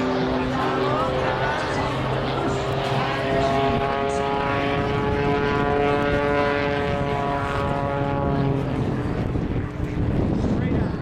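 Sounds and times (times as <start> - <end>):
propeller airplane engine droning: 0.0 - 11.0.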